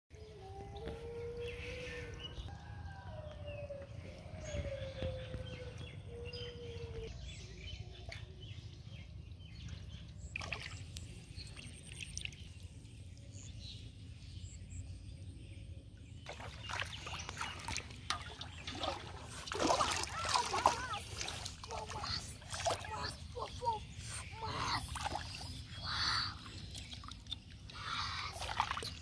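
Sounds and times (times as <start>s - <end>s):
birds chirping: 0.2s - 29.0s.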